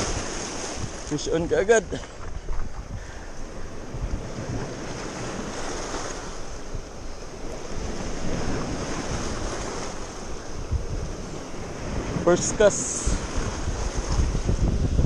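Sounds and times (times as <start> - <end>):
surf washing over rocks: 0.0 - 15.0
wind rumbling on microphone: 0.0 - 15.0.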